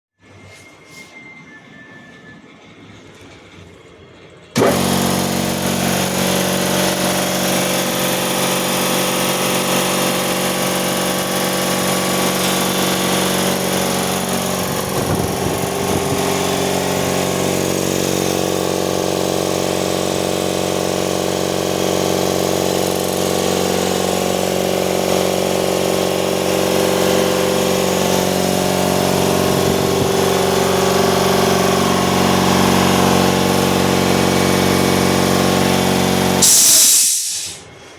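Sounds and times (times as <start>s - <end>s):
air compressor running: 4.6s - 37.9s.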